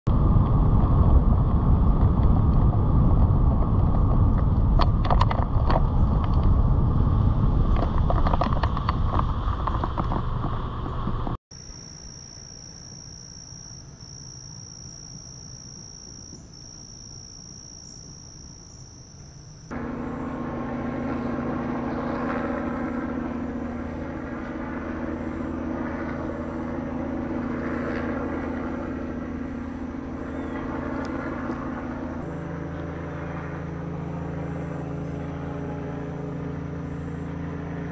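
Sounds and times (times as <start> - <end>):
high-pitched whine: 0.1 - 37.9
low motor hum: 0.1 - 37.9.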